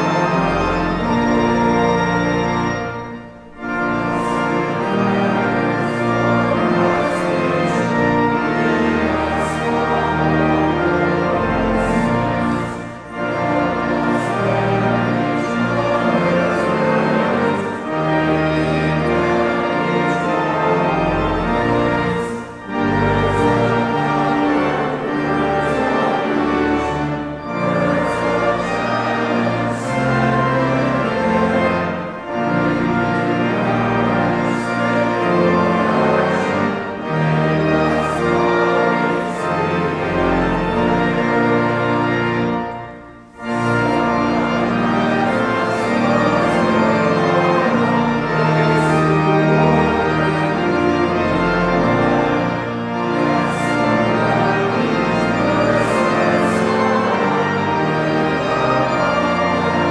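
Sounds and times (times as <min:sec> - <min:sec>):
church organ playing a hymn: 0:00.0 - 0:59.9.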